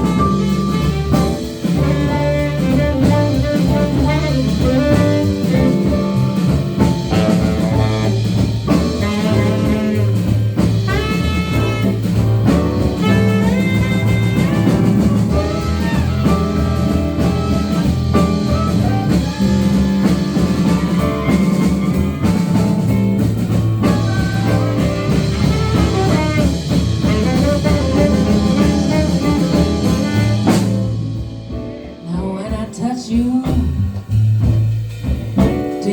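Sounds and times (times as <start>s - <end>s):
horn lines: 0.0s - 31.8s
jazz-blues band playing: 0.0s - 35.9s.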